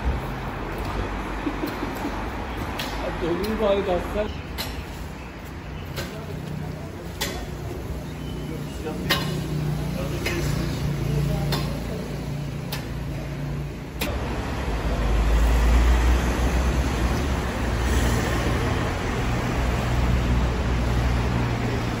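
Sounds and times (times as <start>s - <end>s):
cars driving past: 0.0s - 22.0s.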